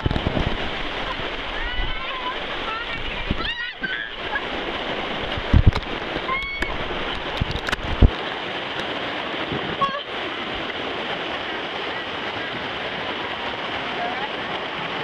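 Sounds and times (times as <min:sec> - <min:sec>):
white water rushing: 0:00.0 - 0:15.0.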